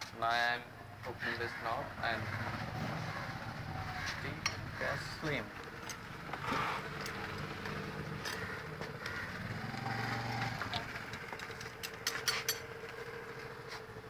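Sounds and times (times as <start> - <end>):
engine-like hum: 0.6 - 14.0.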